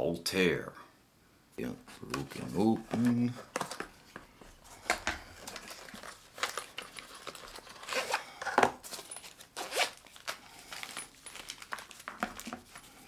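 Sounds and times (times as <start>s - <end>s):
cardboard and plastic rustling tearing: 1.9s - 13.0s.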